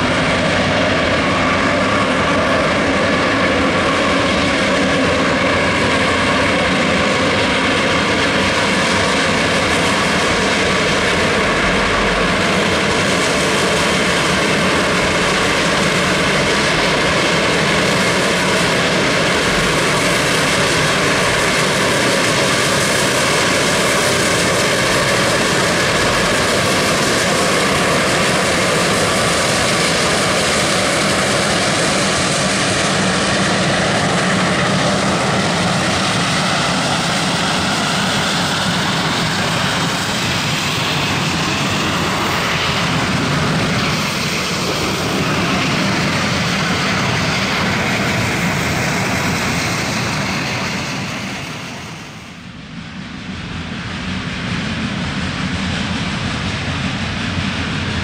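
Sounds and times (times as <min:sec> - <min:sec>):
railway cars rolling by: 0:00.0 - 0:52.4
steam locomotive exhaust roar: 0:00.0 - 0:58.0.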